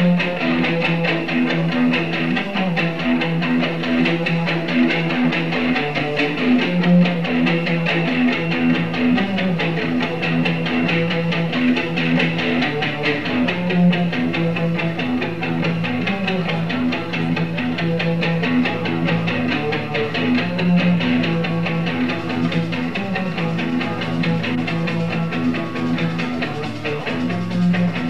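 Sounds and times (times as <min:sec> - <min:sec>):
live punk band: 0:00.0 - 0:28.0.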